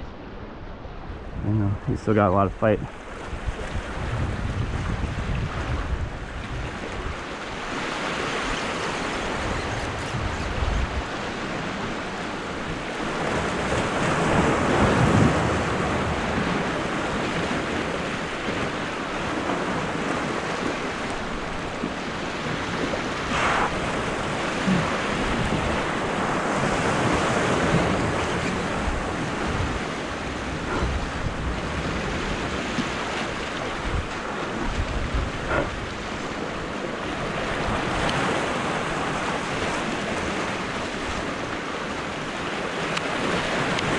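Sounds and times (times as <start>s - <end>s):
wind buffeting microphone: 0.0s - 41.3s
waves washing over rocks: 2.0s - 43.9s.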